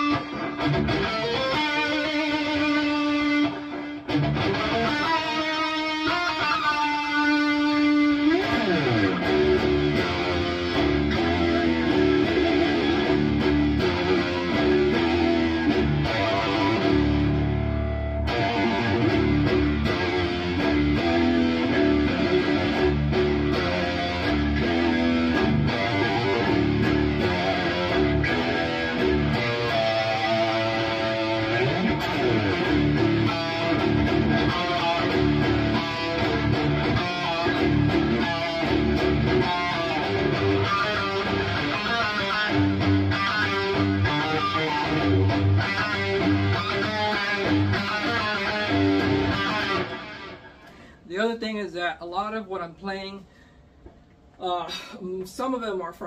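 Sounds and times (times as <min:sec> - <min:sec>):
distorted electric guitar riffs: 0:00.0 - 0:51.0.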